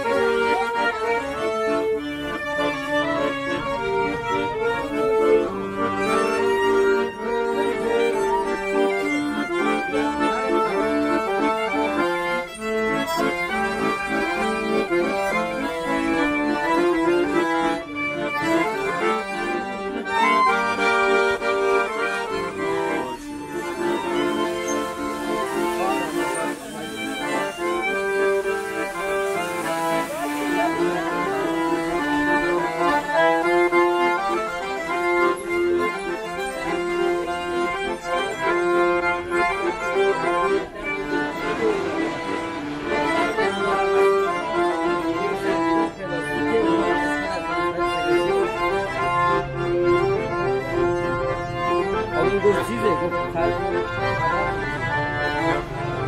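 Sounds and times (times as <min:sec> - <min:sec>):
accordion: 0:00.0 - 0:56.0
violin: 0:00.0 - 0:56.0.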